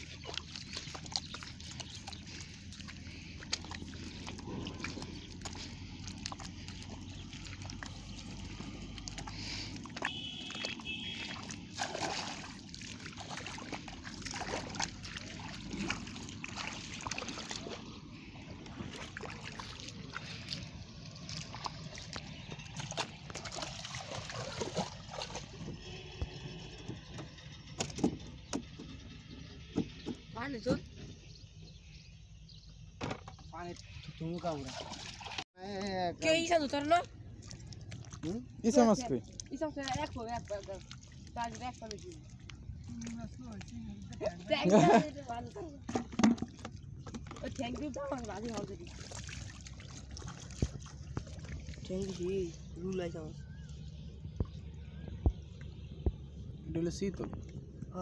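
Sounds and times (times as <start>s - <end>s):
bare feet squelching in mud: 0.0s - 27.1s, 36.2s - 56.0s
small water splashes: 0.0s - 31.5s, 33.2s - 58.0s.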